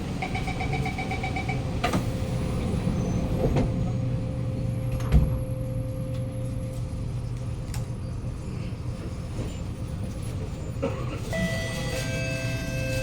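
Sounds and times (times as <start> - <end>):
train doors shutting: 0.0 - 6.6, 9.0 - 13.0
train car low hum: 0.0 - 13.0.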